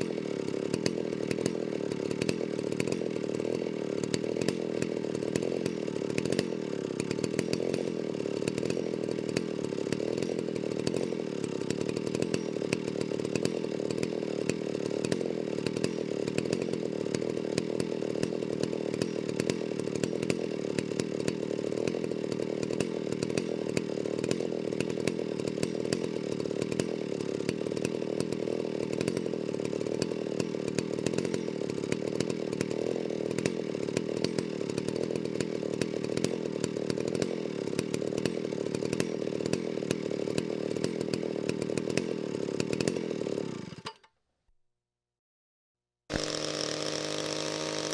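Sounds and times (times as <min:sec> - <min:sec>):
chainsaw running steadily: 0:00.0 - 0:44.2, 0:46.1 - 0:47.9.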